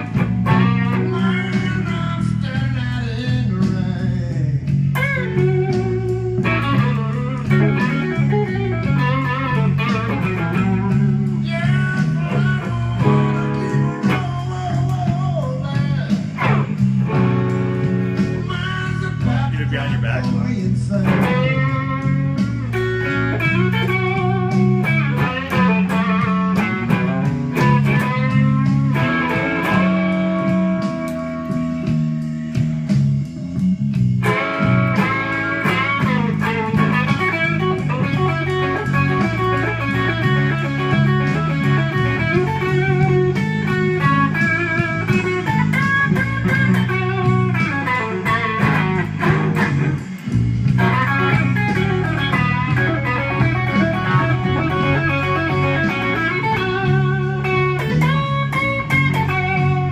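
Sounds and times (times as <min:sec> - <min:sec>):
bass and drums backing track: 0:00.0 - 0:59.9
electric guitar blues lead: 0:00.0 - 0:59.9.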